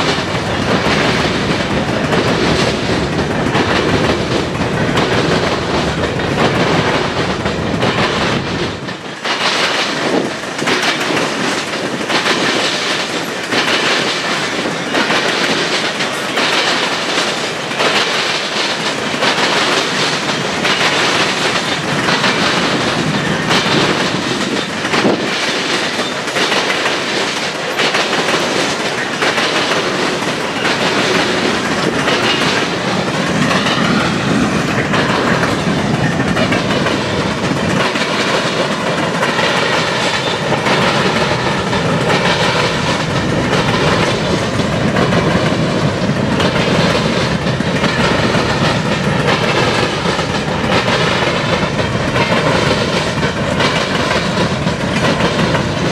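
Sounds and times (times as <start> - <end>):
train wheels clattering over rail joints: 0.0 - 55.9.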